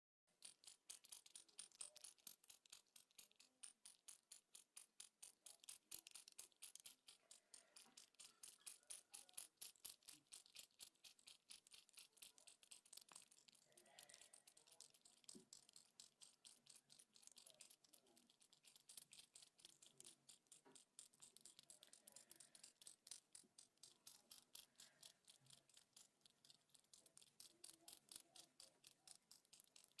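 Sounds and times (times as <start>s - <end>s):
rapid faint clicking: 0.3s - 30.0s.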